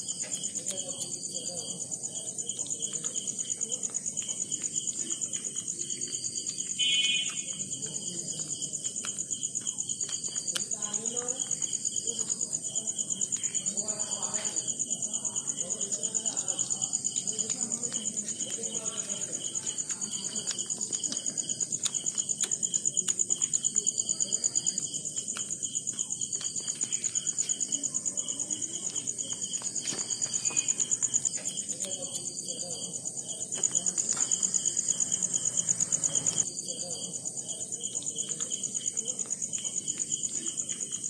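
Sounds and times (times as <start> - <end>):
night insects trilling: 0.0 - 41.0.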